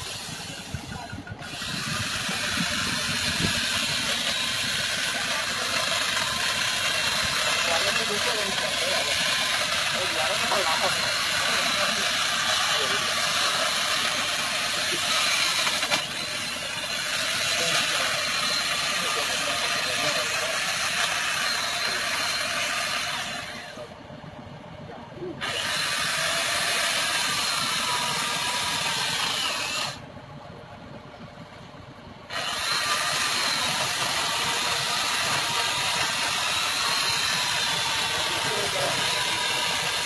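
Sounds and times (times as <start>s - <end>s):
chainsaw cutting wood: 0.0s - 23.9s, 25.4s - 30.0s, 32.3s - 40.0s.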